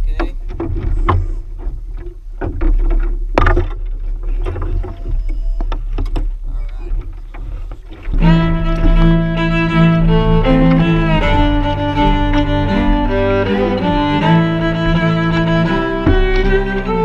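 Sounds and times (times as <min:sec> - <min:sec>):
low rumble: 0:00.0 - 0:17.0
oar knocking on boat hull: 0:00.0 - 0:17.0.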